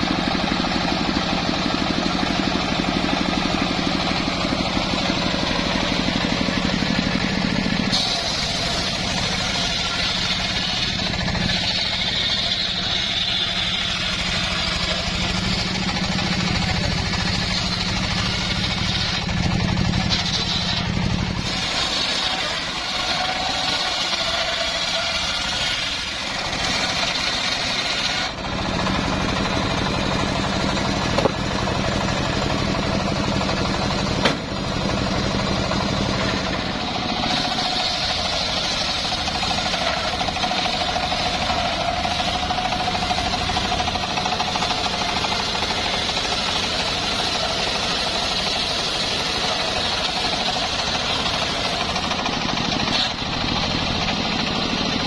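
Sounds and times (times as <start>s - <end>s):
circular saw ripping timber: 0.0s - 55.0s.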